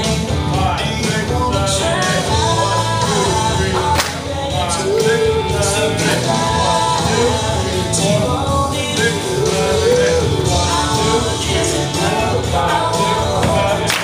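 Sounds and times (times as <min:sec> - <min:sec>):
song with singer and instruments: 0:00.0 - 0:14.0.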